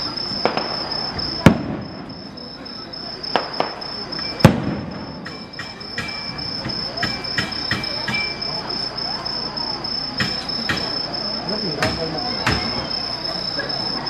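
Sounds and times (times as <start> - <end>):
fireworks banging: 0.0 - 14.0
insects trilling: 0.0 - 14.0.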